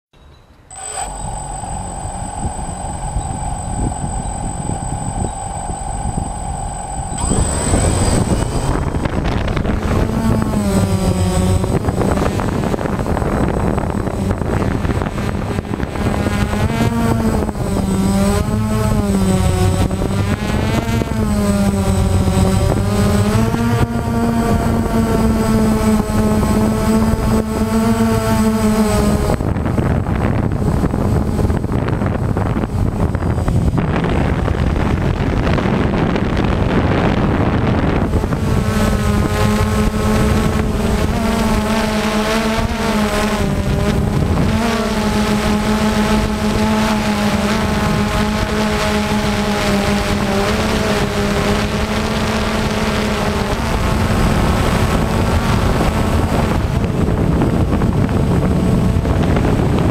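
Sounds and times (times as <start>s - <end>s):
drone motors humming: 0.2s - 59.9s
drone whine: 0.2s - 59.9s.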